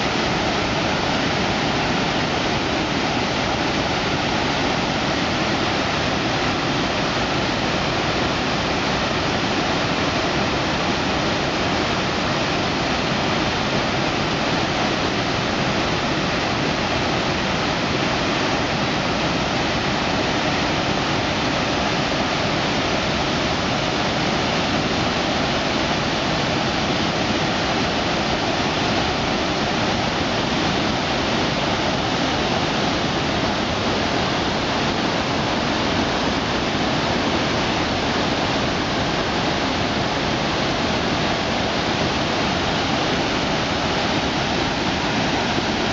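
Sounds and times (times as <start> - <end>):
waterfall rushing over rocks: 0.0 - 45.9.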